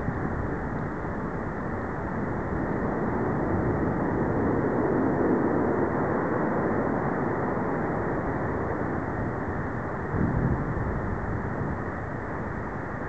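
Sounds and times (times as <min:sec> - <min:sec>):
distant jet engines roaring: 0:00.0 - 0:13.0
wind rumbling on microphone: 0:00.0 - 0:13.0.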